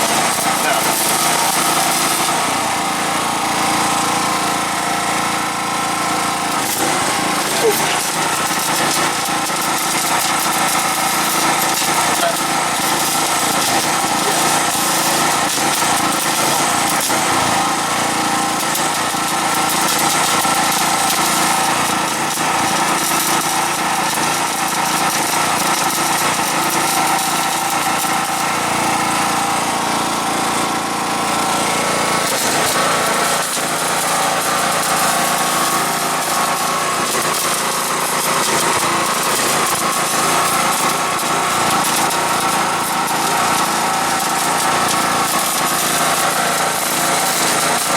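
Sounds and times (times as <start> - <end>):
small engine running steadily: 0.0 - 47.9.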